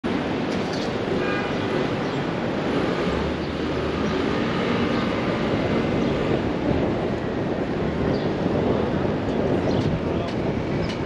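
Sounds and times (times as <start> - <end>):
moving vehicle rumble: 0.1 - 11.0.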